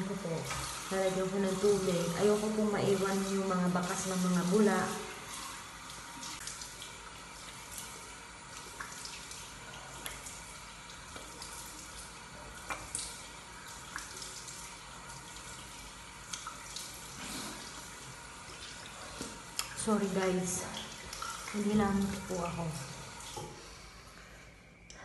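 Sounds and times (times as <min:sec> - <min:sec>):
light water splashes: 0:00.1 - 0:23.9.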